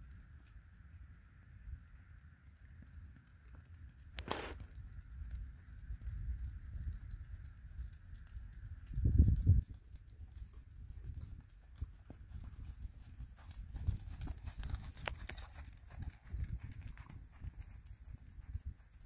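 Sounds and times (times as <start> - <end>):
horse hooves trotting on sand: 2.5 - 19.0.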